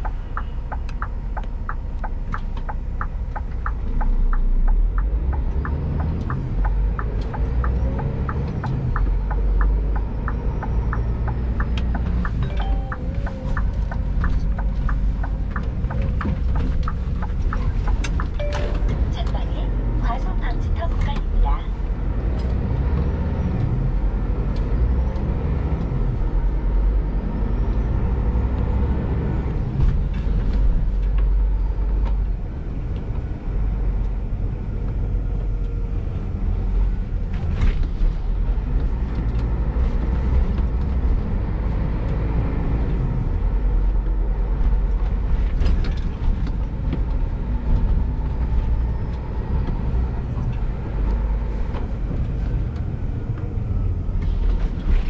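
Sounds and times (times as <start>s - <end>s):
road noise: 0.0s - 55.0s
truck diesel engine rumbling: 0.0s - 55.0s.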